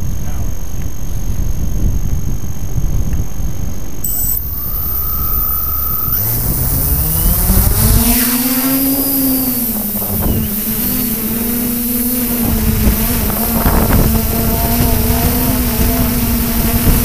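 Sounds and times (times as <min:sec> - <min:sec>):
drone motors humming: 0:00.0 - 0:17.0
wind rumbling on microphone: 0:00.0 - 0:17.0.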